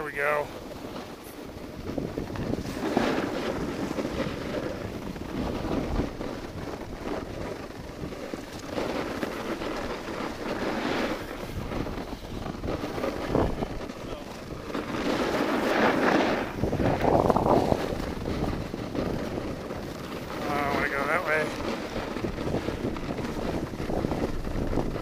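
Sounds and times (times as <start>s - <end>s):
snowboard sliding over snow: 0.0s - 25.0s
wind rushing over microphone: 0.0s - 25.0s.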